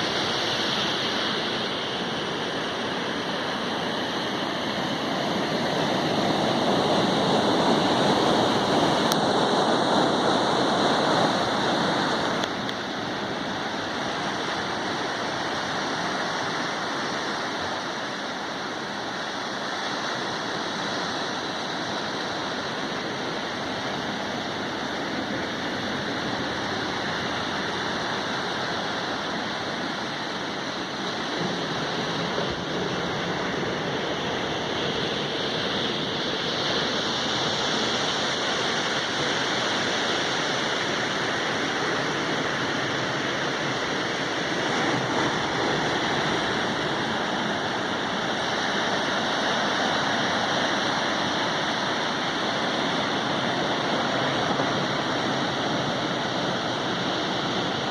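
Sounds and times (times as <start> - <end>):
ocean waves breaking on beach: 0.0 - 57.9.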